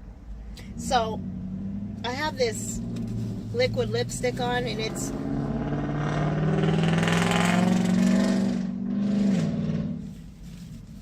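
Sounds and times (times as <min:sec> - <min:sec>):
loud truck engine and exhaust: 0:00.6 - 0:10.4.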